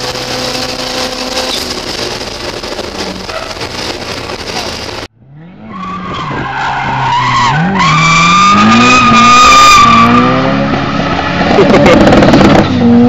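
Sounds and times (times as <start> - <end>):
car engine at high revs: 0.0 - 5.7, 6.4 - 13.0.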